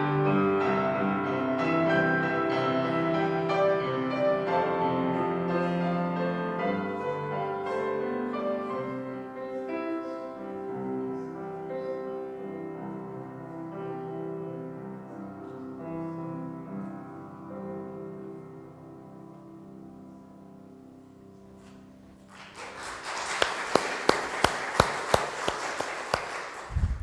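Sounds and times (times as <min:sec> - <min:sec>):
slow piano chords: 0:00.0 - 0:26.7.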